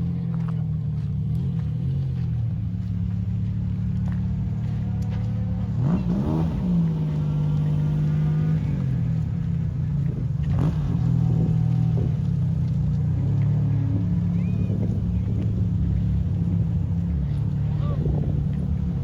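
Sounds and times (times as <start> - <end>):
rally car engine idling and revving: 0.0 - 19.0.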